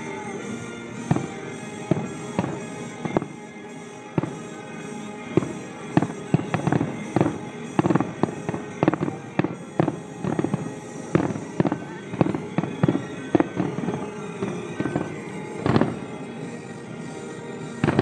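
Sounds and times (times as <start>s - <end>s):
fireworks exploding: 0.0s - 18.0s
music: 0.0s - 18.0s.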